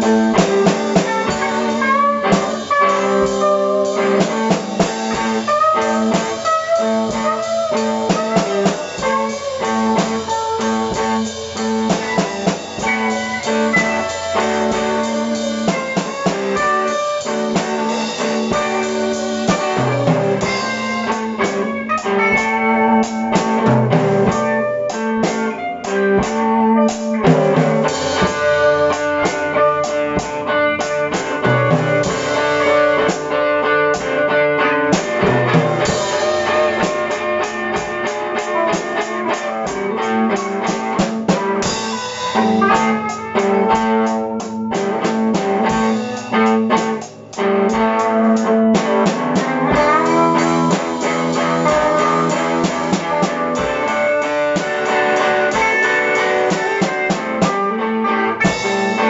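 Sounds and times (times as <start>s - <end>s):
drum kit with cymbals: 0.0s - 59.0s
electric guitar: 0.0s - 59.0s.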